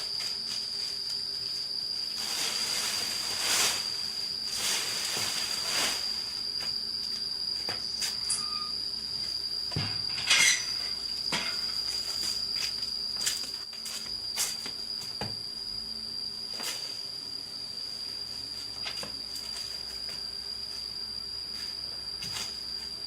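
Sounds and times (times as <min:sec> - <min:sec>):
insect trilling: 0:00.0 - 0:23.0.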